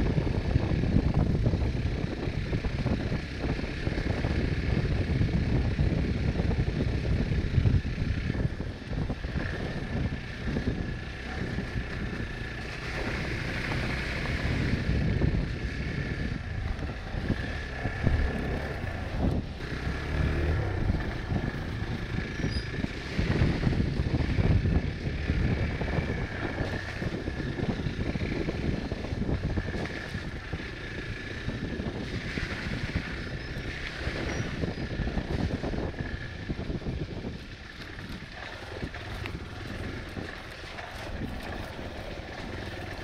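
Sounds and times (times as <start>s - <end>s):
motorcycle engine running: 0.0s - 43.0s
wind on microphone: 0.0s - 43.0s.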